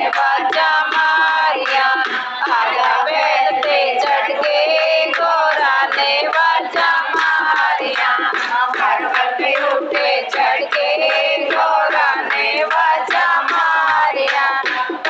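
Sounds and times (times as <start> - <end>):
steady percussion beat: 0.0 - 15.0
women singing devotional song: 0.0 - 15.0.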